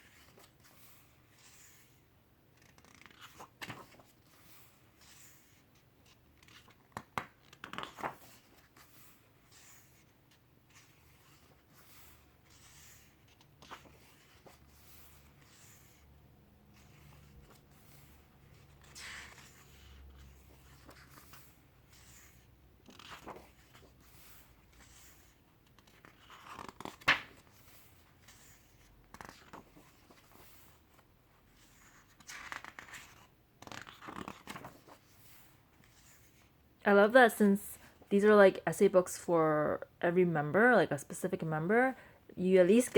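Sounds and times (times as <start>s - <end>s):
book pages rustling: 0.0s - 36.6s.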